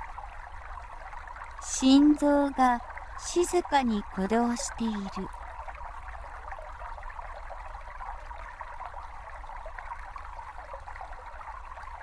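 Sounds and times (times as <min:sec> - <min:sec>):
stream trickling over stones: 0:00.0 - 0:12.0.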